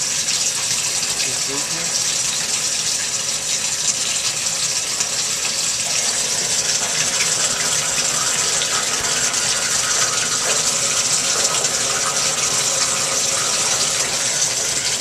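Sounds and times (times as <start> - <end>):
water running through drain pipe: 0.0 - 15.0.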